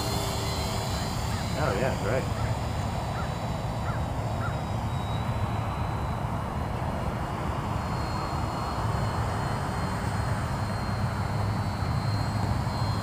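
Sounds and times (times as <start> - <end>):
distant model plane engine droning: 0.0 - 13.0.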